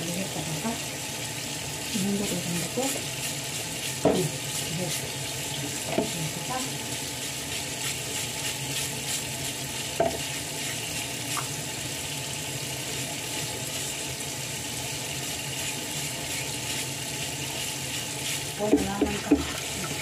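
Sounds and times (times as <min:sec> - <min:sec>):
tap water running into sink: 0:00.0 - 0:20.0
brush scrubbing crab shells: 0:02.0 - 0:20.0.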